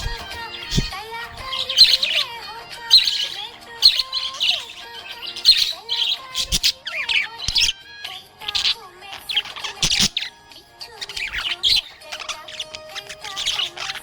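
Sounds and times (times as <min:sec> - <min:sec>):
budgerigar chirping: 0:00.0 - 0:14.0.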